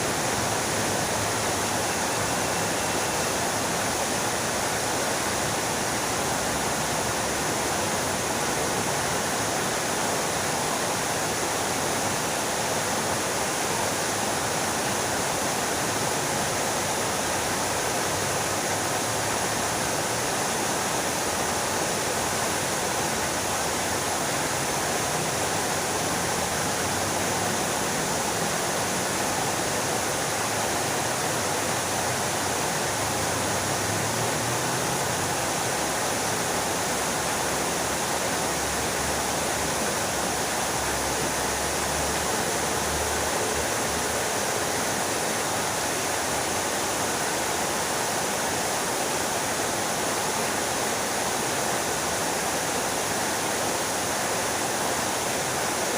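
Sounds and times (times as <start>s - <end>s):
fountain water splashing: 0.0s - 55.9s.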